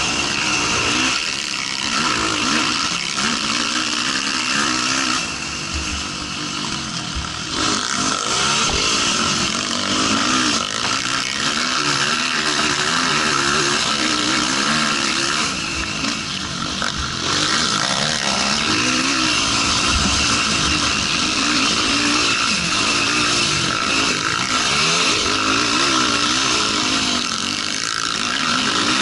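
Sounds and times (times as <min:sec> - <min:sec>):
quad engine revving: 0:00.0 - 0:29.0.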